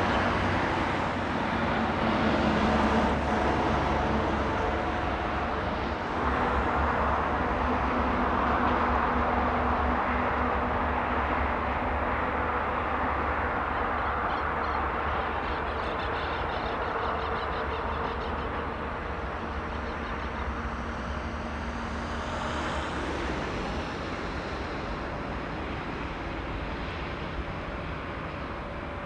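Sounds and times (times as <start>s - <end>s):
high engine whine: 0.0s - 29.0s.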